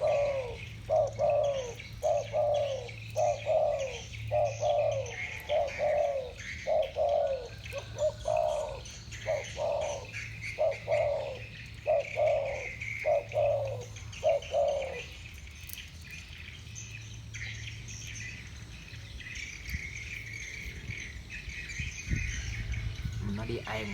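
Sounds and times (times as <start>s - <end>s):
doves cooing: 0.0s - 23.9s.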